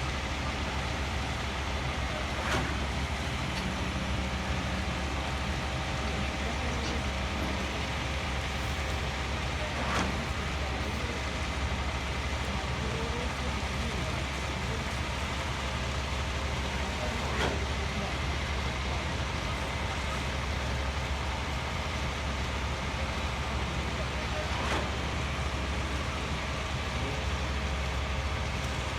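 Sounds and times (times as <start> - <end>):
diesel machinery humming: 0.0 - 28.9.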